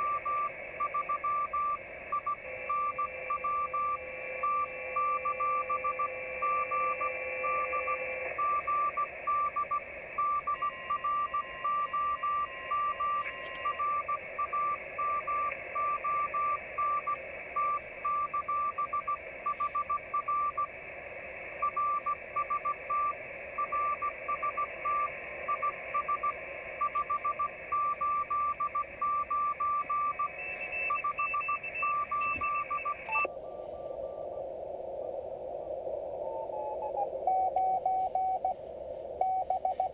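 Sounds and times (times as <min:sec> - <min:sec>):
morse code beeps: 0:00.0 - 0:20.8, 0:21.6 - 0:33.3, 0:36.2 - 0:38.6, 0:39.2 - 0:39.9
radio band hiss: 0:00.0 - 0:37.3.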